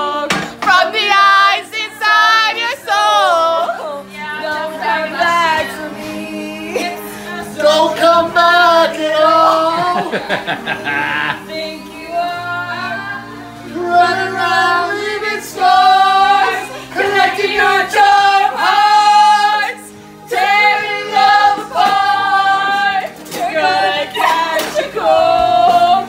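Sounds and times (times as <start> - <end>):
women singing together: 0.0 - 26.0.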